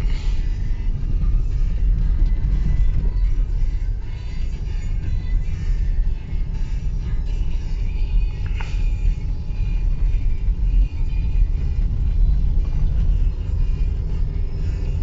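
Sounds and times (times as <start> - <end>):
tyre and road rumble: 0.0 - 15.0.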